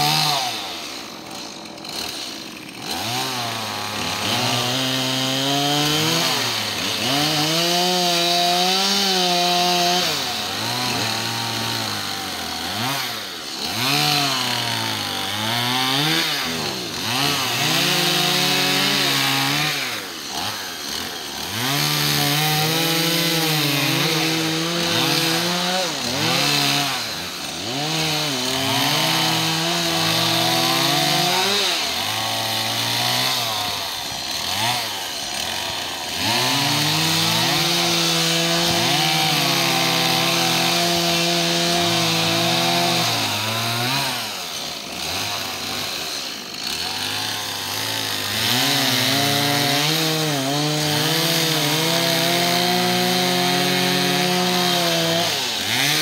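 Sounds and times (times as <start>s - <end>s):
chainsaw cutting branches: 0.0s - 56.0s.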